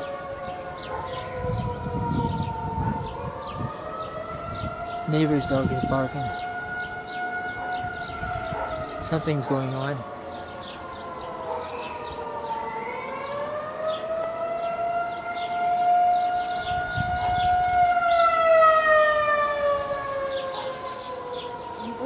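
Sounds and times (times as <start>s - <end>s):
tornado siren wailing: 0.0s - 22.0s.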